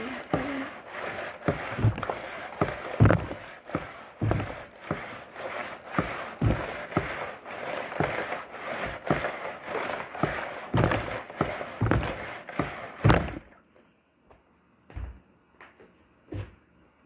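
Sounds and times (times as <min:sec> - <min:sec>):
water and clothes sloshing in washer: 0:00.0 - 0:13.7.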